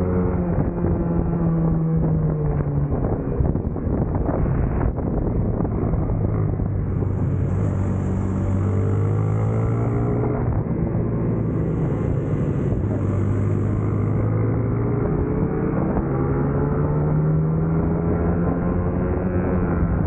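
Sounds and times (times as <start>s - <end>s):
racing motorcycle engine: 0.0s - 20.0s
wind rushing over microphone: 0.0s - 20.0s.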